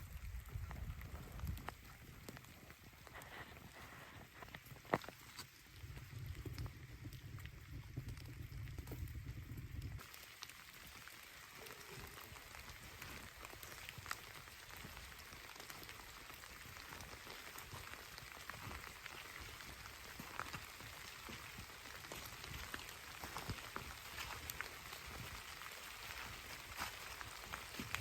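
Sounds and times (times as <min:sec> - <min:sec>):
raindrops ticking on surfaces: 0:00.0 - 0:28.0
steady rainfall hiss: 0:00.0 - 0:28.0.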